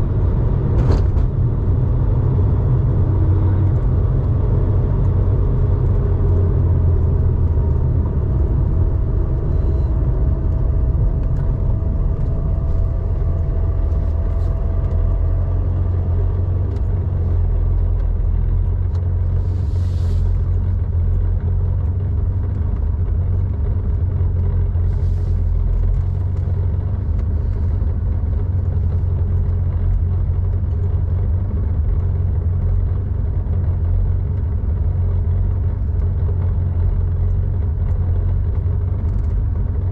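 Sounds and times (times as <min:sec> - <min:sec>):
car engine deep exhaust note: 0:00.0 - 0:39.9.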